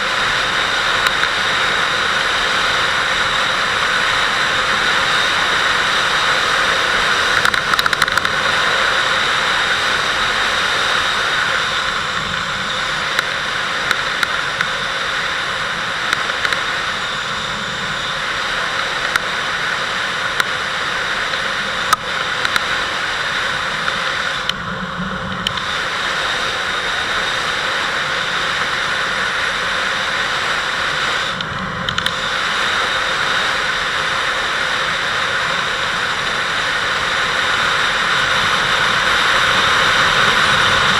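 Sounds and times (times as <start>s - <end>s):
motorcycle engine: 0.0s - 40.9s
wind noise on microphone: 0.0s - 40.9s.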